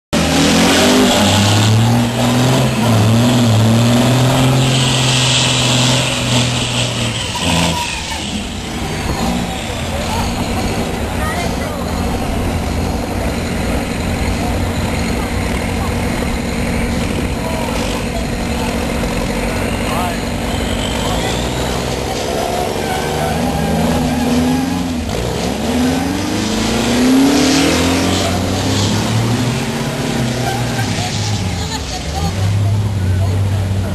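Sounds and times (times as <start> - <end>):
diesel truck engines revving: 0.1 - 33.9.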